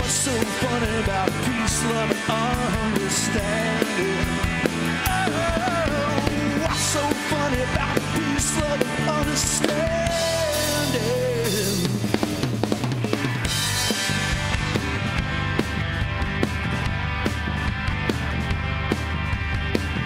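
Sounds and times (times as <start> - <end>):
bass guitar: 0.0 - 20.0
drums with cymbal crashes: 0.0 - 20.0.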